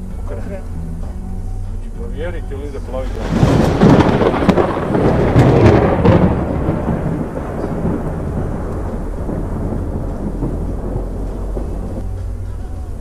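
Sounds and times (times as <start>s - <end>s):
engine and road noise drone: 0.0s - 13.0s
loud rumble with rattling: 1.0s - 13.0s.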